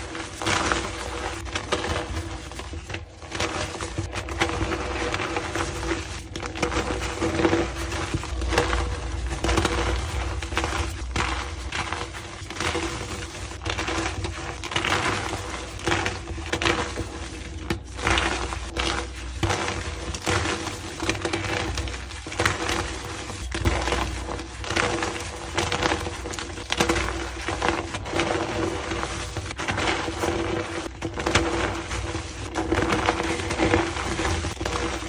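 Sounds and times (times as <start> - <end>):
chalk crunching and crumbling: 0.0 - 35.0.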